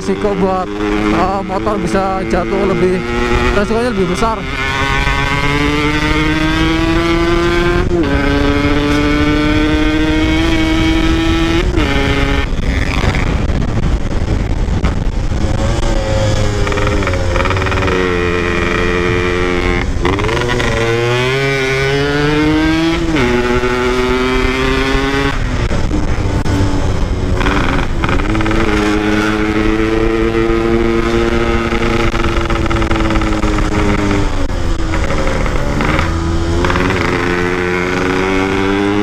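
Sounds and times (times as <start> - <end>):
motorcycle engine shifting gears: 0.0 - 39.0
wind rushing: 0.0 - 39.0.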